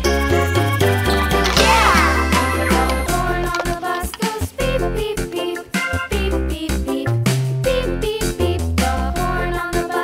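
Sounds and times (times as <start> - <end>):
upbeat children's music: 0.0 - 10.0.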